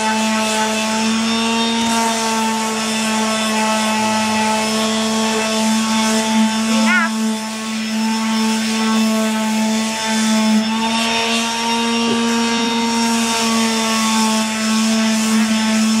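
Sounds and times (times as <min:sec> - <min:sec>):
palm sander sanding wall: 0:00.0 - 0:16.0.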